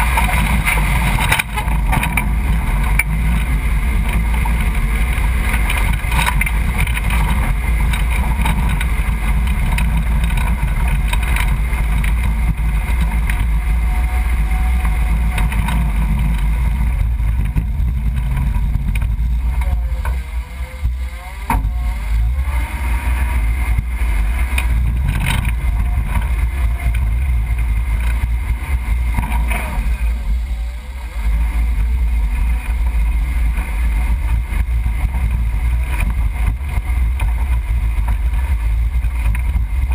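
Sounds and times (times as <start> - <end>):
truck engine rumbling: 0.0 - 39.9.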